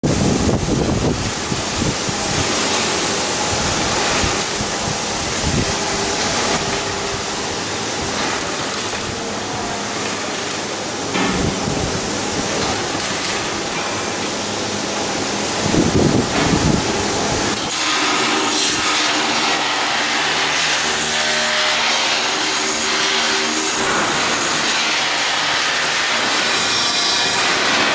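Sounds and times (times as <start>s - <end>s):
loud rushing hiss: 0.0s - 27.9s.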